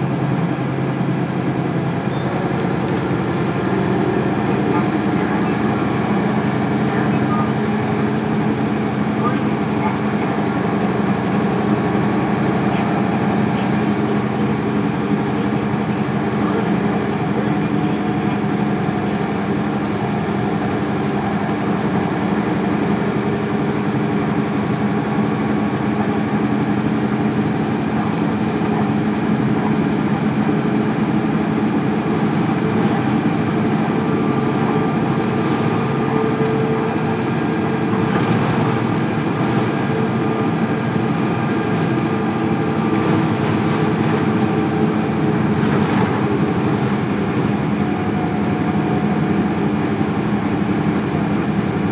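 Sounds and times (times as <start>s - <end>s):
diesel bus engine droning: 0.0s - 51.9s.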